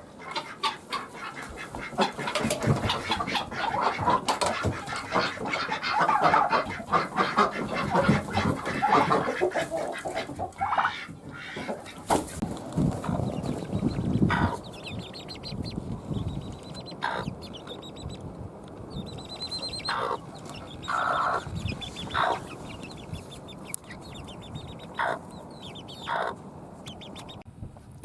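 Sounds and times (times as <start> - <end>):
chickens clucking: 0.0 - 27.5.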